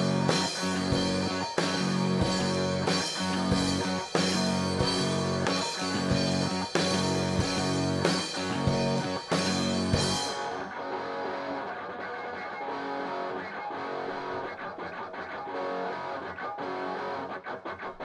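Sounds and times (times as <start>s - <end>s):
electric guitar riff: 0.0s - 18.0s
rock band with drums: 0.0s - 18.0s.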